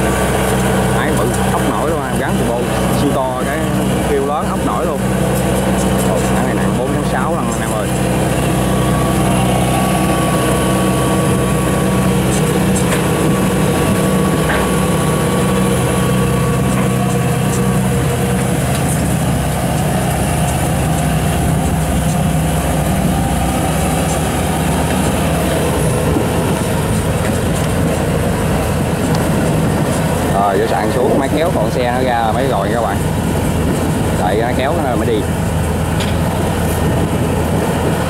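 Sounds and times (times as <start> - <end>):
diesel engine running steadily: 0.0 - 38.0.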